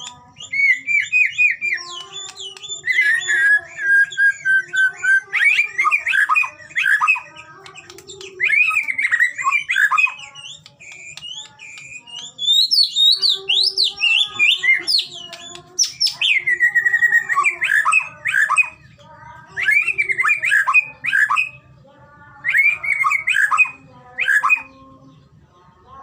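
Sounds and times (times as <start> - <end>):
songbird singing whistles and chatter: 0.0 - 26.0.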